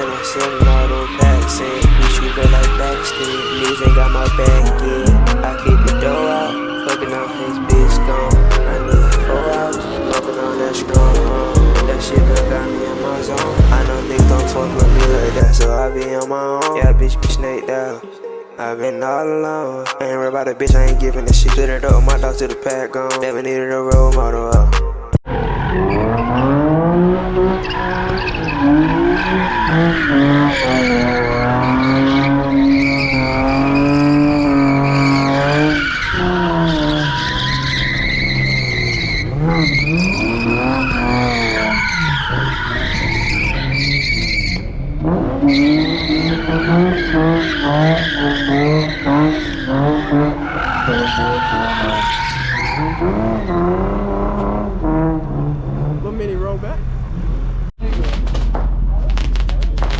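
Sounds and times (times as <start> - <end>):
car engine revving: 0.0 - 17.6, 20.0 - 59.9
tyres squealing: 0.0 - 54.7.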